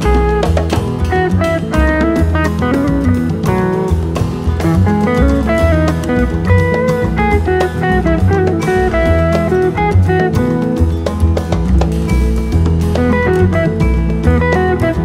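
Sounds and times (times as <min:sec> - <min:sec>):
guitar with bass and drums: 0:00.0 - 0:15.0.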